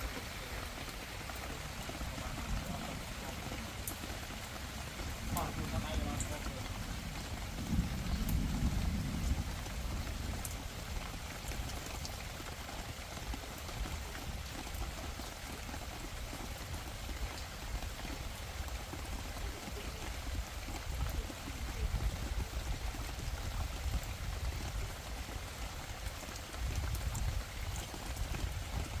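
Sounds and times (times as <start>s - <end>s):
heavy rain falling: 0.0s - 29.0s
wind rumble on microphone: 1.4s - 15.2s, 16.1s - 29.0s.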